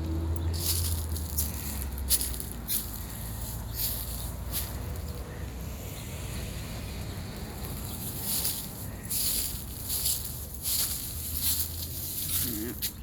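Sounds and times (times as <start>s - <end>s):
footsteps crunching on ground: 0.0s - 5.4s, 7.1s - 13.0s.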